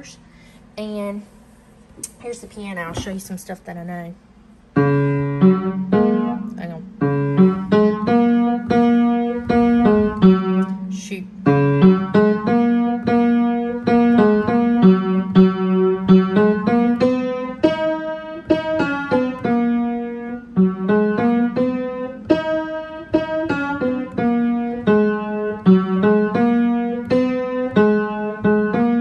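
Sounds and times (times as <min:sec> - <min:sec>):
simple piano tune: 0:04.7 - 0:29.0.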